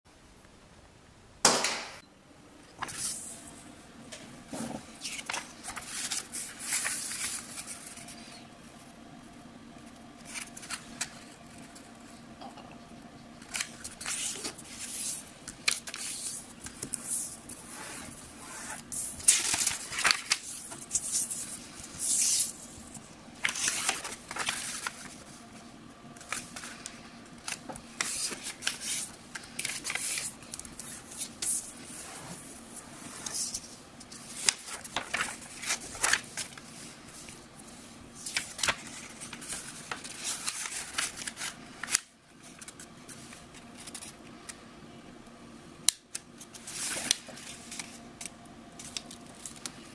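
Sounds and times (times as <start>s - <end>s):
paper rustling and creasing: 4.5s - 8.5s, 9.8s - 12.2s, 13.4s - 25.6s, 26.2s - 44.3s, 46.4s - 49.9s.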